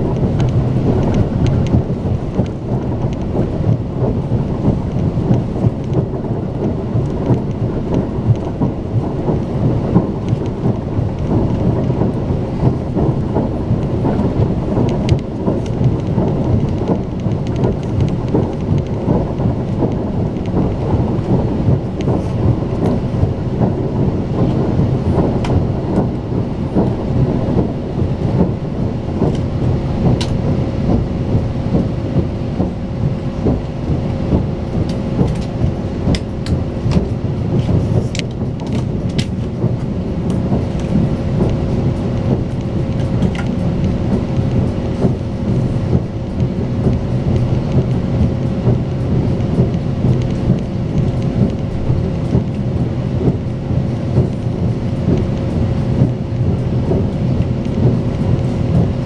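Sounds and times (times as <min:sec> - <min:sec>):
faint steady hum: 0:00.0 - 0:59.0
train rumble inside carriage: 0:00.0 - 0:59.0
wheels knocking on rails: 0:00.0 - 0:59.0.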